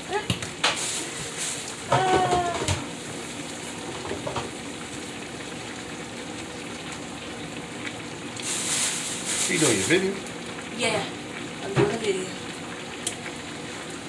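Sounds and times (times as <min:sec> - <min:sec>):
steaks sizzling in oil: 0:00.0 - 0:14.0.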